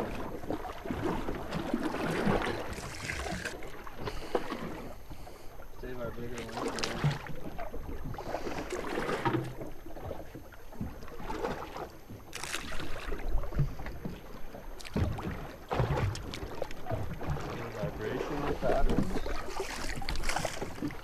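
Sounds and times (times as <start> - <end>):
water slapping against boat hull: 0.0 - 4.8, 6.2 - 21.0
light splashes: 0.0 - 4.9, 6.2 - 10.2, 10.8 - 21.0.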